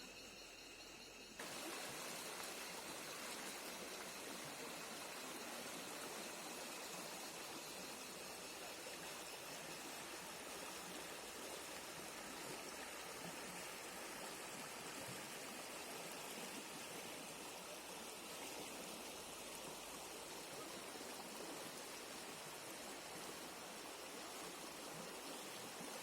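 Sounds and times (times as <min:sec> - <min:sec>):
river water rushing: 0:01.4 - 0:26.0.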